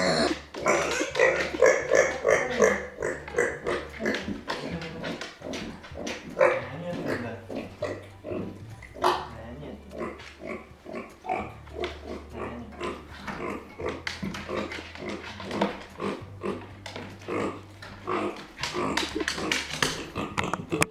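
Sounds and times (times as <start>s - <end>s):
pig calling agitatedly: 0.0s - 20.9s.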